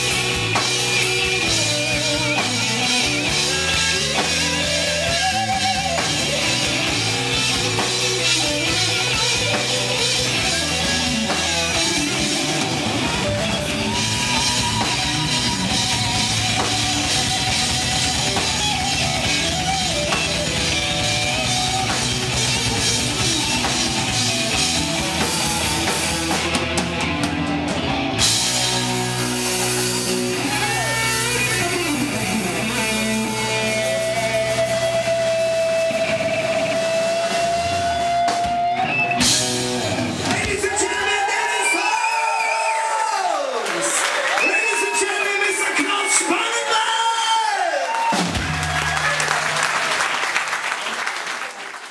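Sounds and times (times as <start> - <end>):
drum kit: 0.0 - 42.7, 47.9 - 50.6
electric guitars: 0.0 - 46.3.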